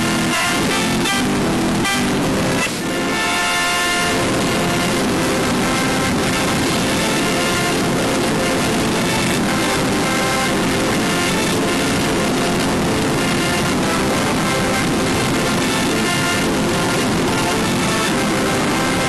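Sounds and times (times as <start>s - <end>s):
reversed music: 0.0s - 19.0s.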